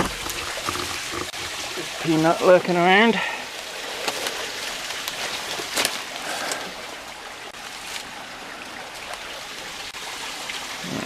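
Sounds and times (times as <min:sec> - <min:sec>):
creek water flowing over rocks: 0:00.0 - 0:11.0.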